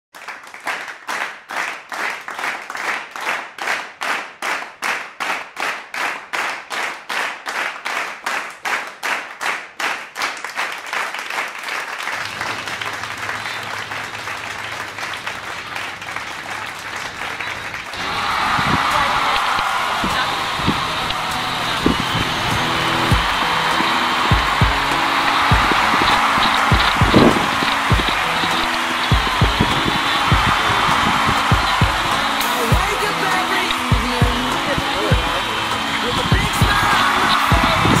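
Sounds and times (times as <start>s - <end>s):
applause: 0.0s - 38.0s
crowd clapping in unison: 0.0s - 38.0s.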